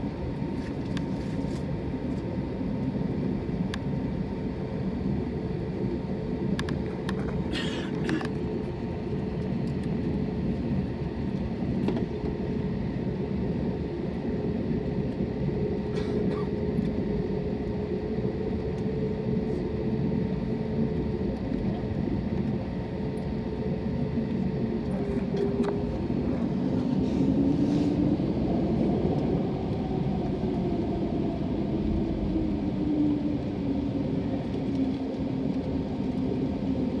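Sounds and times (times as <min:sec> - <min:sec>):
aircraft cabin rumble and hum: 0:00.0 - 0:37.0.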